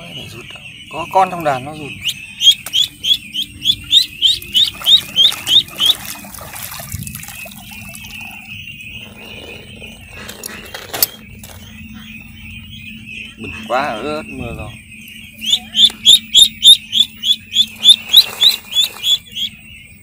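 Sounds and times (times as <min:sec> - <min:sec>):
duckling peeping loudly: 0:00.0 - 0:20.0
flock of ducklings peeping: 0:00.0 - 0:20.0.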